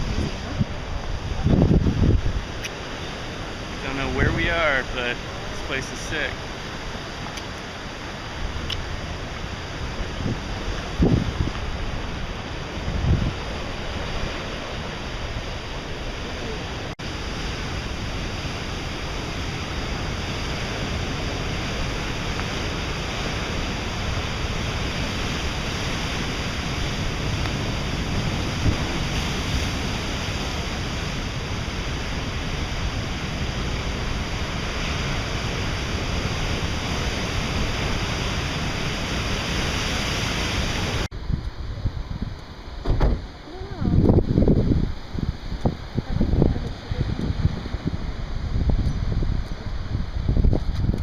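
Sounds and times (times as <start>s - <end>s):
waterfall rushing: 0.0s - 41.1s.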